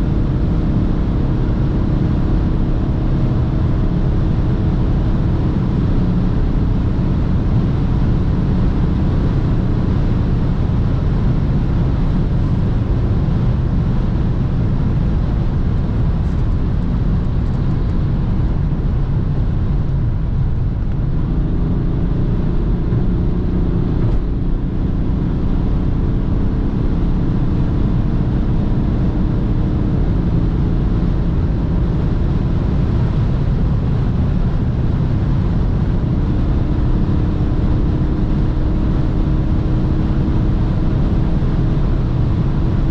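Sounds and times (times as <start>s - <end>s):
car engine drone: 0.0s - 42.9s
road and wind noise: 0.0s - 42.9s.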